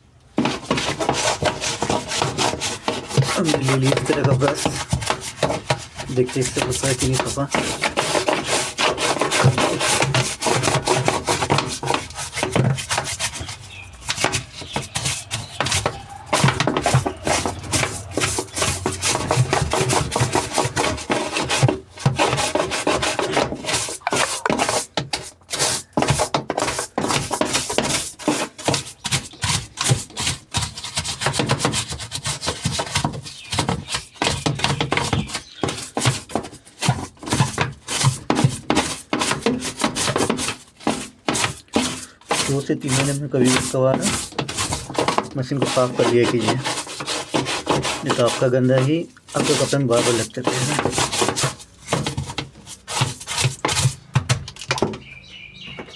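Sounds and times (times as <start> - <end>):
brush scrubbing: 0.4 - 54.2.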